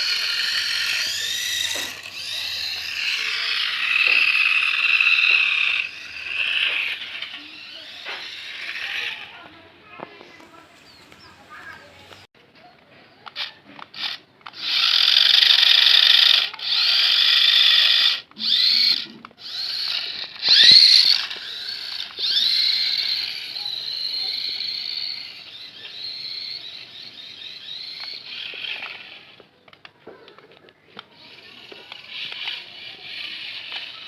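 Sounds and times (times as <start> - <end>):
small electric motor whirring: 0.0 - 12.3, 13.2 - 34.0.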